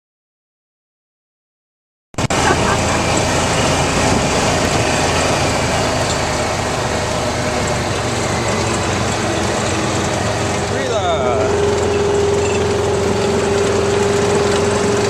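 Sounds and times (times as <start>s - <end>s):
vehicle road and engine rumble: 2.2s - 15.0s
wind: 2.2s - 15.0s.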